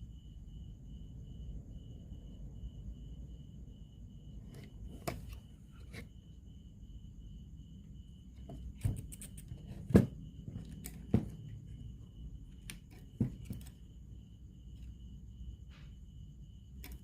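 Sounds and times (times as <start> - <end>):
faint high whine pulsing: 0.0 - 17.0.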